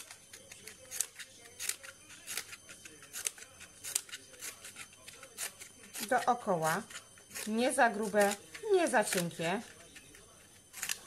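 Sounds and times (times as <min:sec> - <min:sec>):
scissors cutting cardboard: 0:00.0 - 0:11.0.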